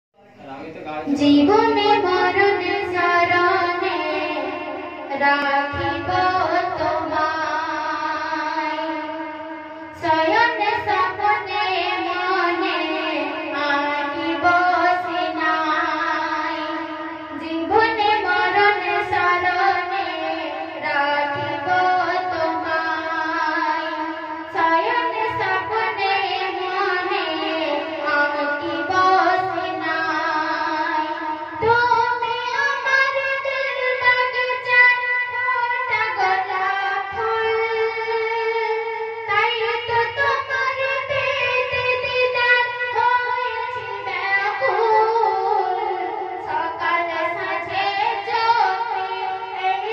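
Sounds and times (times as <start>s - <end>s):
woman singing devotional song: 0.9s - 49.9s.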